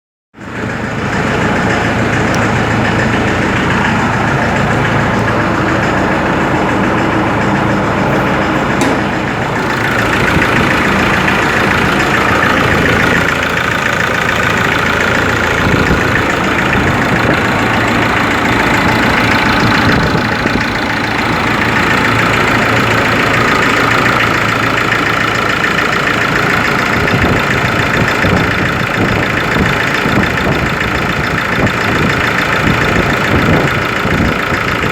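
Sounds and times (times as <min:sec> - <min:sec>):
diesel engine idling: 0:00.4 - 0:34.9.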